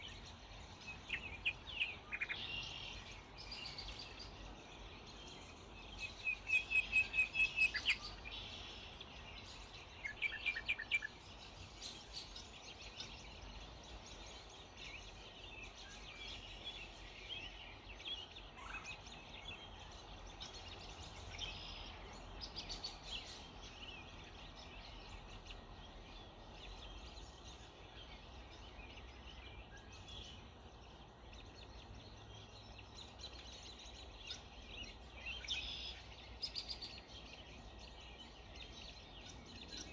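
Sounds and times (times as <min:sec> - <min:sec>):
birds singing and calling: 0:00.0 - 0:39.9
faint background hiss: 0:00.0 - 0:39.9.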